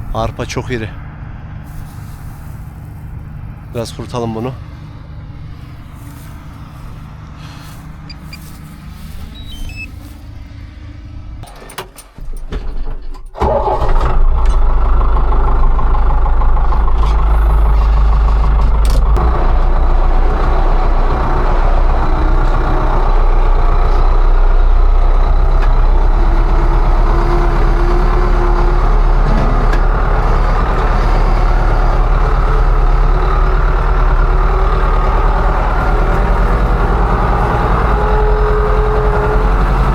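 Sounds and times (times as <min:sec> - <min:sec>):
diesel engine running: 0:00.0 - 0:11.5, 0:13.4 - 0:39.9.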